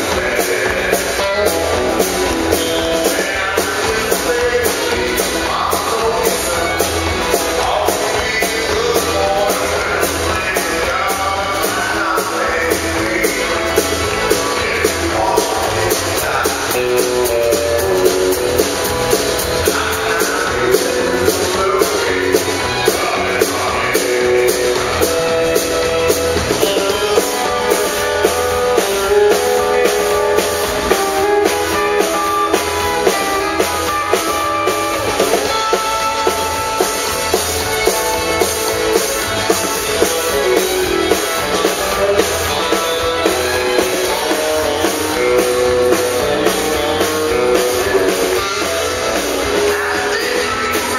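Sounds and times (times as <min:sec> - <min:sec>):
acoustic guitar: 0:00.0 - 0:50.9
drum kit beat: 0:00.0 - 0:50.9
electric guitar: 0:00.0 - 0:50.9.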